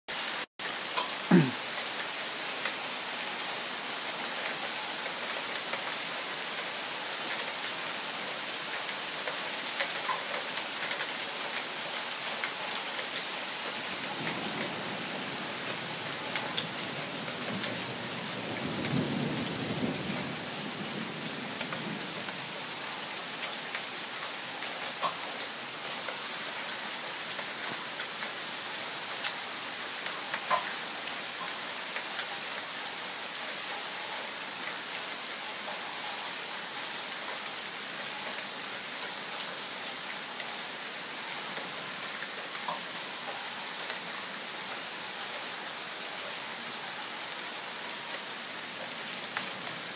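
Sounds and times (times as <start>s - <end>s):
hail and rain falling: 0.1s - 49.9s.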